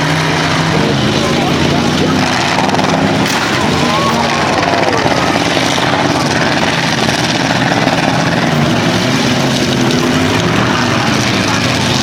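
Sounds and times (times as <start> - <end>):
truck engines running loud: 0.0 - 12.0.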